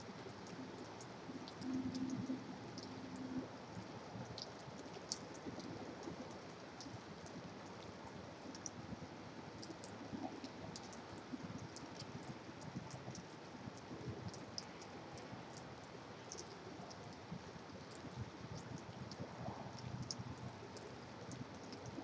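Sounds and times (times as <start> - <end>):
light ticks: 0.1 - 8.9, 9.6 - 22.0.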